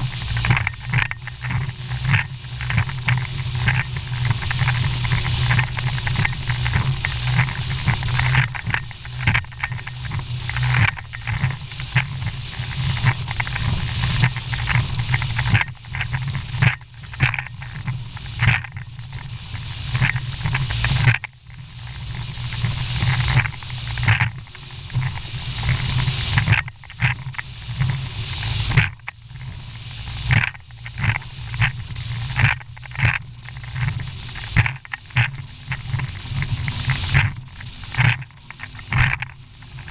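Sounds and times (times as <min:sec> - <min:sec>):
outboard motor drone: 0:00.0 - 0:39.9.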